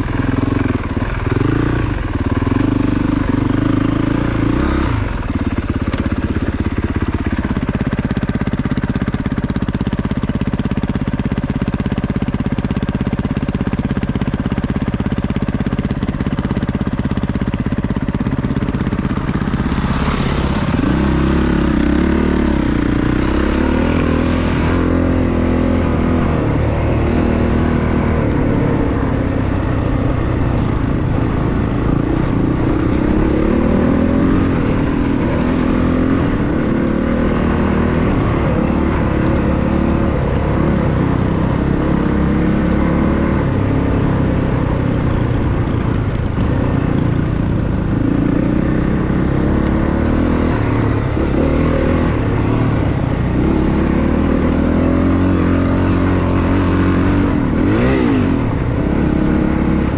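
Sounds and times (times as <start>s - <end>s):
dirt bike engine idling and revving: 0.0s - 59.9s.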